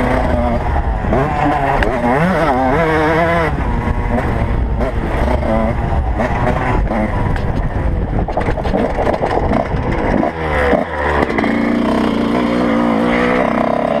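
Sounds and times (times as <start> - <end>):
motocross engines revving: 0.0 - 14.0.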